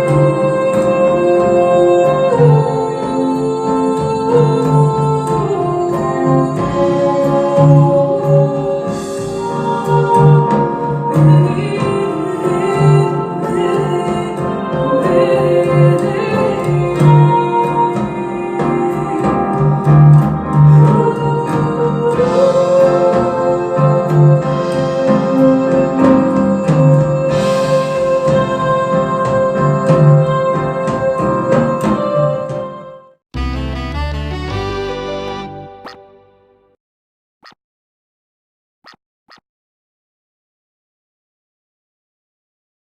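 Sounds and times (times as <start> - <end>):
organ and keyboard chords: 0.0 - 36.8.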